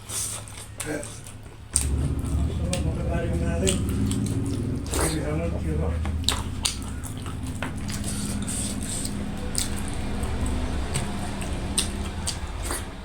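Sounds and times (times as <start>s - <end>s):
wet chewing mouth noises: 0.0s - 13.0s
low hum: 1.1s - 13.0s.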